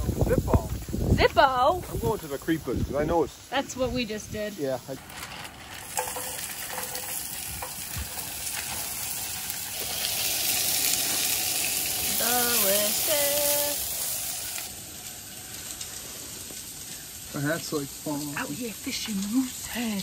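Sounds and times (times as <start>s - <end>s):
peppers and onions sizzling in pan: 0.0s - 20.0s.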